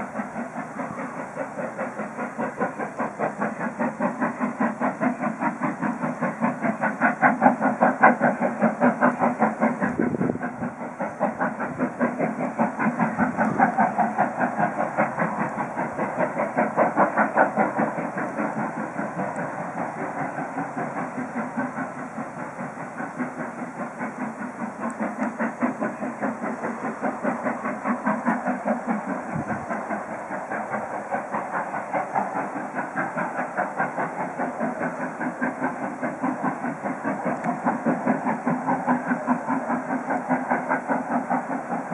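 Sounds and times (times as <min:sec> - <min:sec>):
steam locomotive exhaust chuffing: 0:00.0 - 0:41.9.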